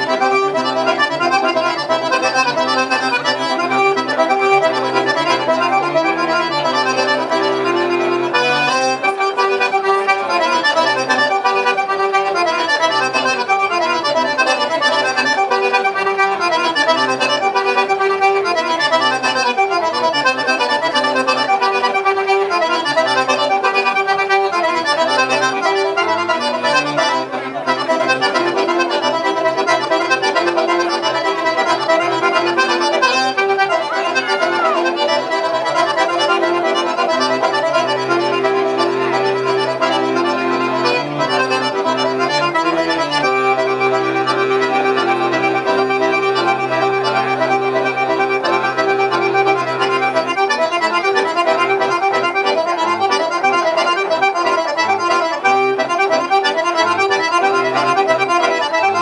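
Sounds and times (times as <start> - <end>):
accordion folk dance music: 0.0 - 59.0.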